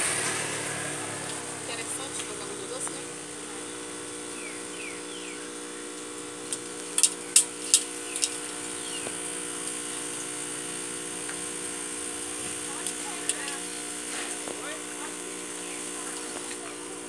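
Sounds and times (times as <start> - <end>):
machine motor humming: 0.0 - 17.0.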